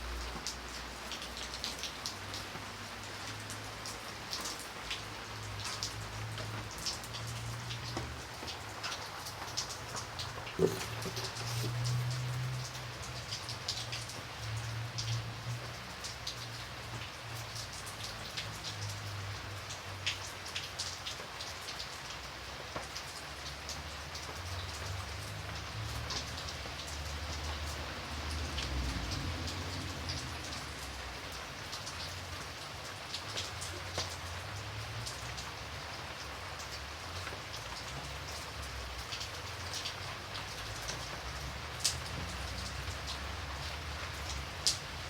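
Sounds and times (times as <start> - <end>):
raindrops ticking on a surface: 0.0 - 45.0
steady rain falling: 0.0 - 45.0.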